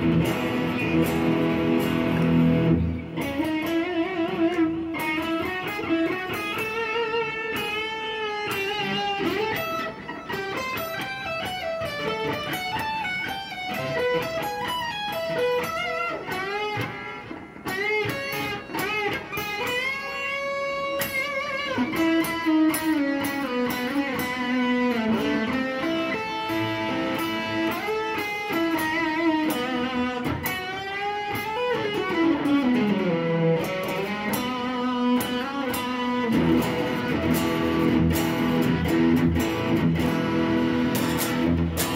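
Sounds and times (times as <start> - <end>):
electric guitar lead lines: 0.0 - 41.9.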